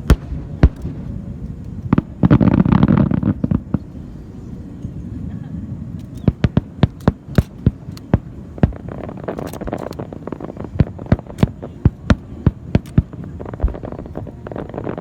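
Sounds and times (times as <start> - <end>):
fireworks bangs: 0.0 - 4.1, 5.0 - 15.0
steady low rumble: 0.0 - 15.0.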